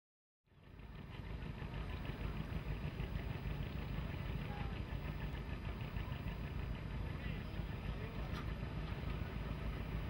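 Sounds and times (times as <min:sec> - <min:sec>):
boat motor rumbling: 0:00.5 - 0:10.0.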